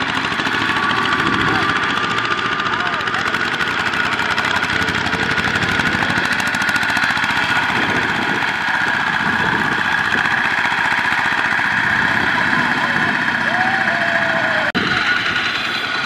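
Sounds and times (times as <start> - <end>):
diesel engine chugging: 0.0 - 16.0.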